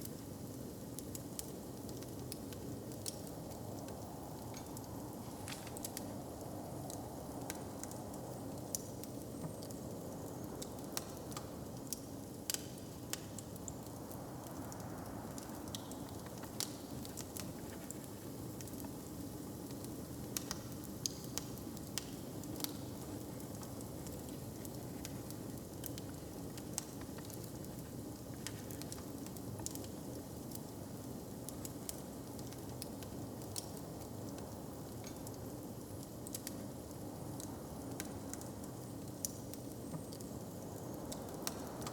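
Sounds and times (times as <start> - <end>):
wood fire crackling: 0.4 - 41.9.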